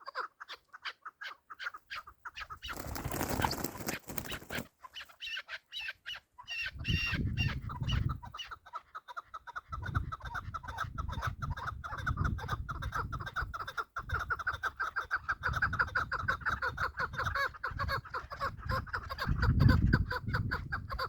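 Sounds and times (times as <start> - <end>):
partridge clucking calls: 0.0 - 21.0.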